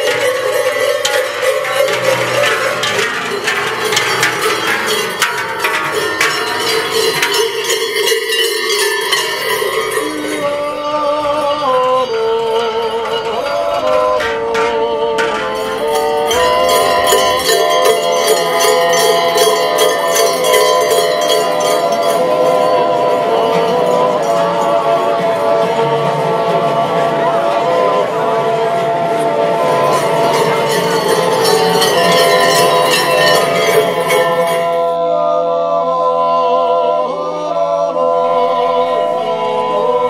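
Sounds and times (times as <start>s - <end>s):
costume bells jingling and clanging: 0.0s - 35.2s
men yodelling wordlessly: 5.6s - 40.0s.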